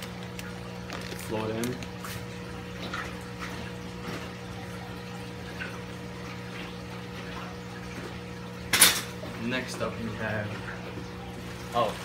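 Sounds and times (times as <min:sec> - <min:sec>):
aquarium pump electric hum: 0:00.0 - 0:12.0.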